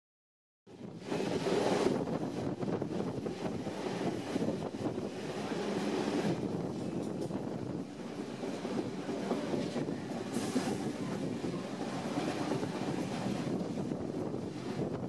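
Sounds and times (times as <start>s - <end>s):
train wheels rumbling on rails: 0.7s - 15.0s.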